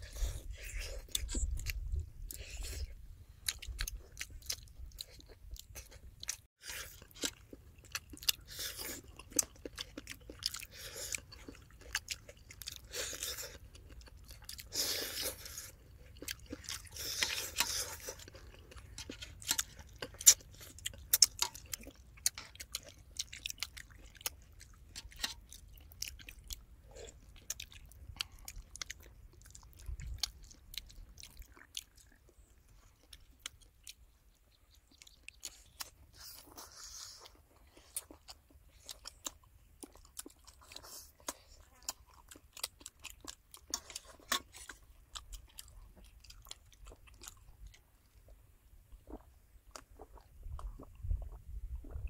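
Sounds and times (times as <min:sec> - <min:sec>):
people chewing and crunching: 0:00.0 - 0:52.0.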